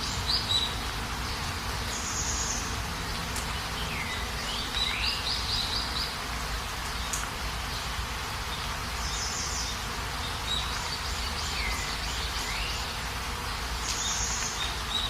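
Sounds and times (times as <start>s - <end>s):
rain hissing: 0.0s - 15.0s
small birds chirping: 0.0s - 15.0s.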